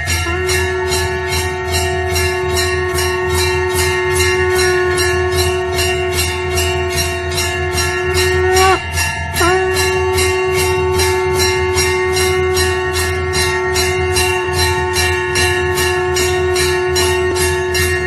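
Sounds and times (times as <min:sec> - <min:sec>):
temple bell rung rapidly: 0:00.0 - 0:18.0.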